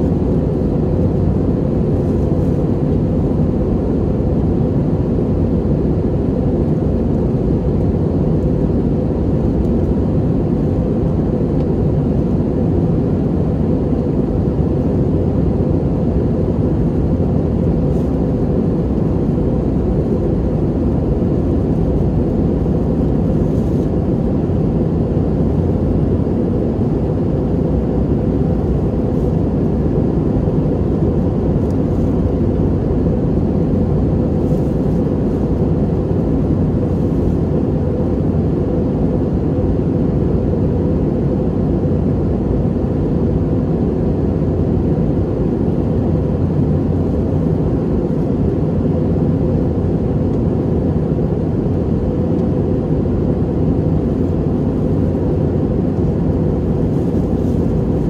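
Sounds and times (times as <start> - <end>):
airliner cabin roar: 0.0 - 58.0.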